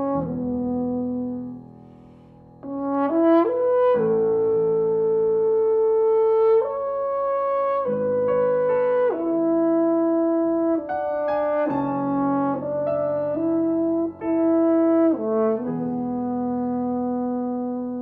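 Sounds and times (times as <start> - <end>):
french horn melody: 0.0 - 18.0
piano accompaniment: 0.0 - 18.0.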